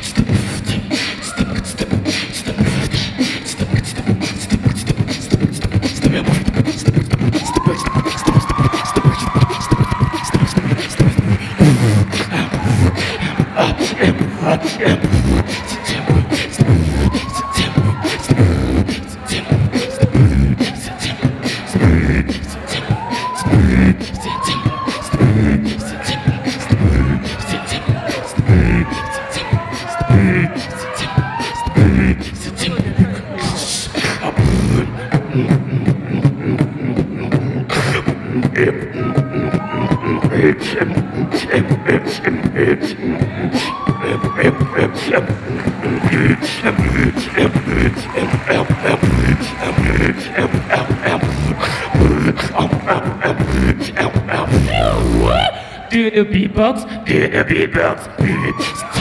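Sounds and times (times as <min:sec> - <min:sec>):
person beatboxing into microphone: 0:00.0 - 0:59.0
pitched vocal slide: 0:00.0 - 0:59.0.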